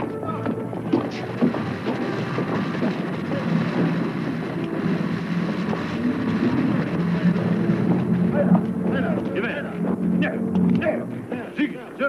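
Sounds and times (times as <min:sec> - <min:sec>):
crowd shuffling on foot: 0:00.0 - 0:12.0
indistinct murmur of voices: 0:00.0 - 0:12.0.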